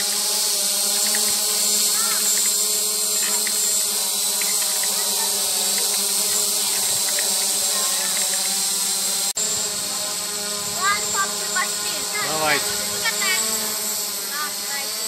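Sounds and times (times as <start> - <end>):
drone buzzing with high whine: 0.0 - 15.0.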